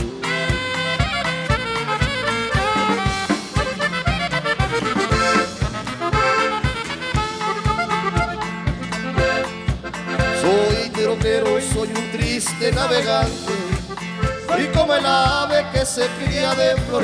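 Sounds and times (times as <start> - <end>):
accordion melody: 0.0 - 17.0
bass: 0.0 - 17.0
steady drum beat: 0.0 - 17.0.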